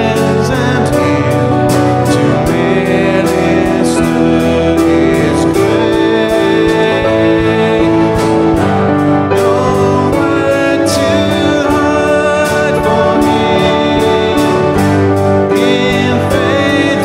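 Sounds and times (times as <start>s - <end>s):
guitar playing hymn tune: 0.0s - 17.0s.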